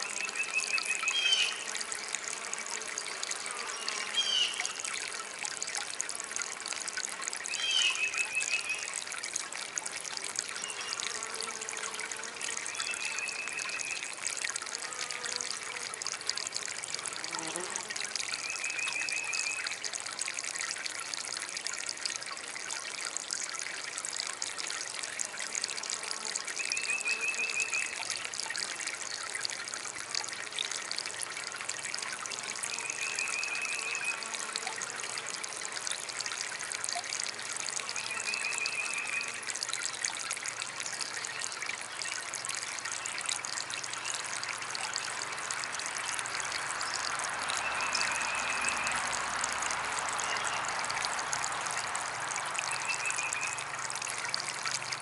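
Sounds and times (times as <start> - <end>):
water trickling in fountain: 0.0 - 55.0.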